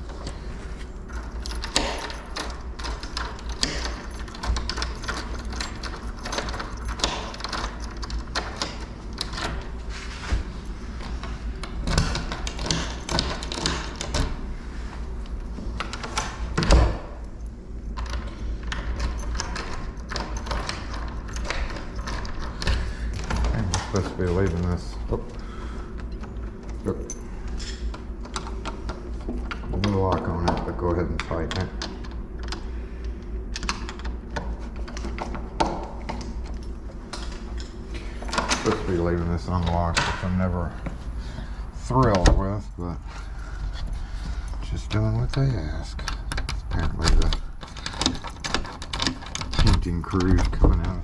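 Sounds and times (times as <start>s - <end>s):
metal lock clicking and rattling: 1.0s - 9.8s, 11.0s - 14.4s, 15.8s - 25.3s, 26.0s - 32.7s, 33.5s - 41.0s, 44.9s - 51.0s.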